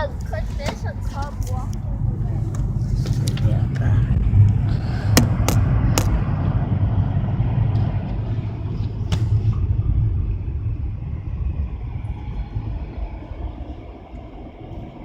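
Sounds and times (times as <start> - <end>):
car cabin road rumble: 0.0 - 15.0.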